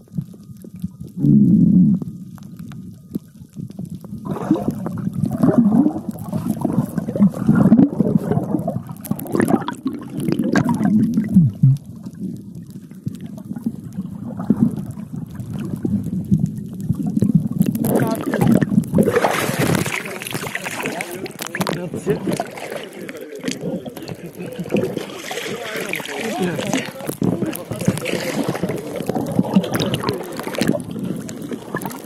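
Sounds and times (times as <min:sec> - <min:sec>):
muffled underwater water sounds: 0:00.0 - 0:32.0.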